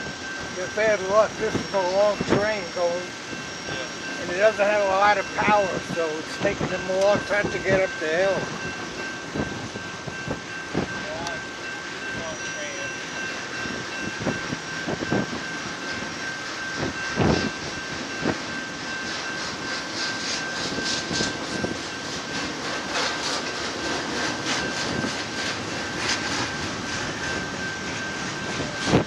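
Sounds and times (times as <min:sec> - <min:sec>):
high wheel squeal: 0:00.0 - 0:29.0
steel wheels rumbling on rail: 0:00.0 - 0:29.0.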